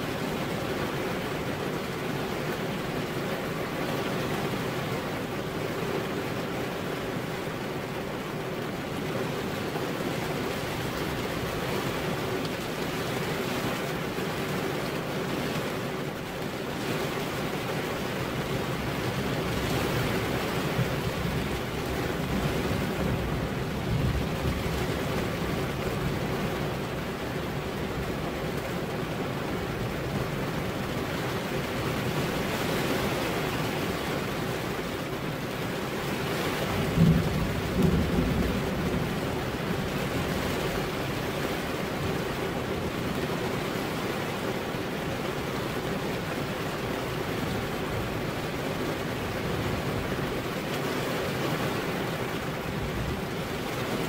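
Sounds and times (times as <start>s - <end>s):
rain on a window pane: 0.0s - 54.0s.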